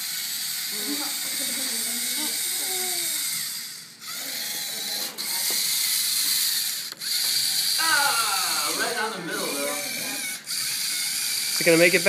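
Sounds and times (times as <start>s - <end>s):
robot motors and gears whirring: 0.0s - 7.8s, 9.5s - 12.0s.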